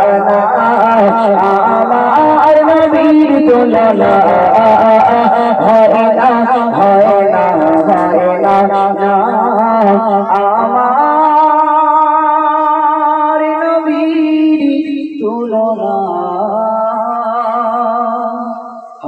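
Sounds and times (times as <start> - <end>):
person singing long wavering notes: 0.0 - 19.0.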